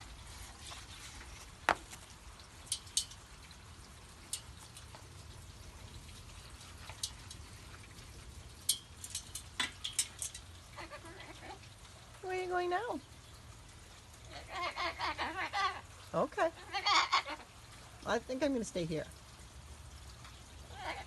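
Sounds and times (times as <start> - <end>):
raindrops ticking on hard surface: 0.0 - 21.0.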